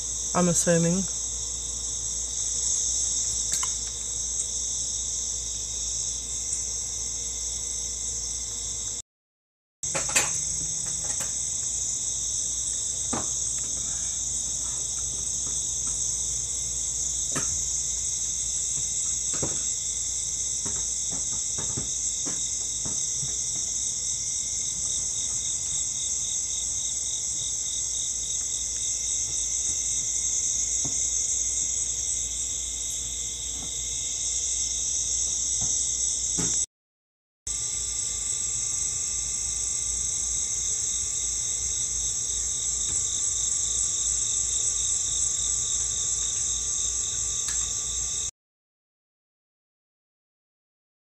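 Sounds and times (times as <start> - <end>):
crickets trilling: 0.0 - 9.0, 9.9 - 36.7, 37.5 - 48.3.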